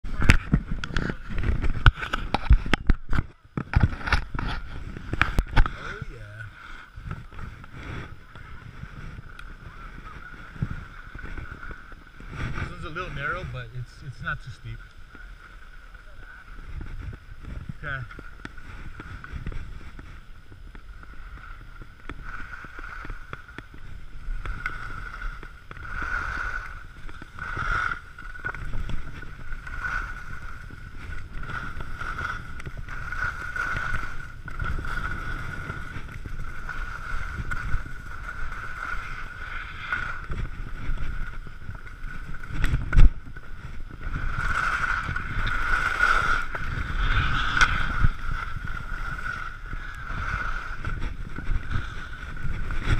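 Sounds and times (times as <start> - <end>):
skis scraping on snow: 0.0 - 52.9
wind rushing over microphone: 0.0 - 52.9.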